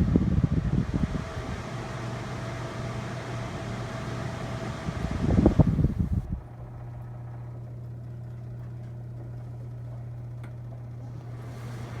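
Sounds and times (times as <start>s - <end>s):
air cooler humming: 0.0s - 12.0s.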